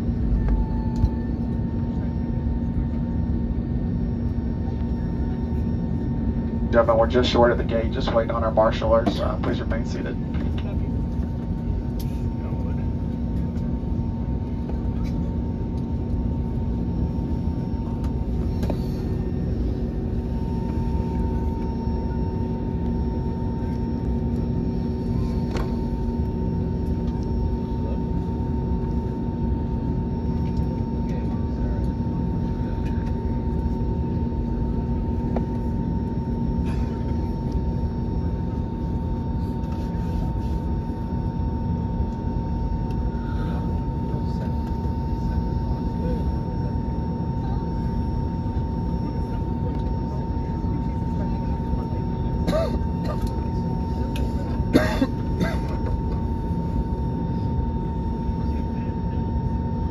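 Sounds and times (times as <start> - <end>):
constant hum: 0.0 - 59.9
idling jet engines rumbling: 0.0 - 59.9.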